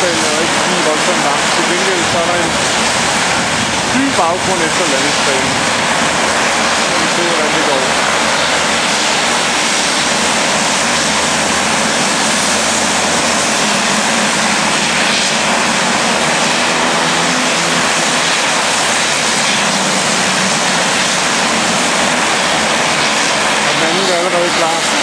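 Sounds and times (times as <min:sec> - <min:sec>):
low steady hum: 0:00.0 - 0:25.0
turboprop plane engines running: 0:00.0 - 0:25.0.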